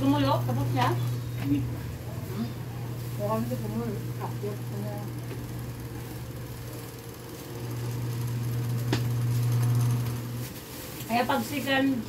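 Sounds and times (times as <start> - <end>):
small electric motor humming: 0.0 - 10.4.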